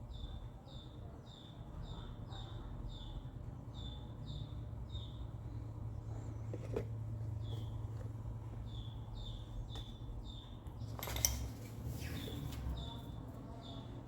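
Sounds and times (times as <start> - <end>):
bird chirping: 0.0 - 6.4, 7.3 - 11.0, 12.0 - 14.0.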